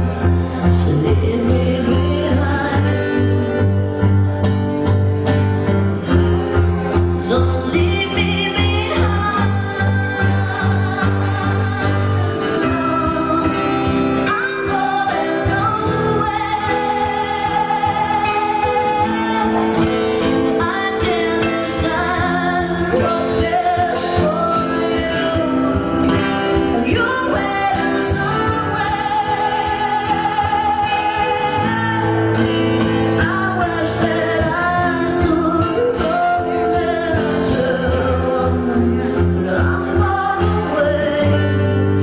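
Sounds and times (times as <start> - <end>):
woman singing: 0.0 - 4.1, 6.9 - 42.0
acoustic guitar: 0.0 - 42.0.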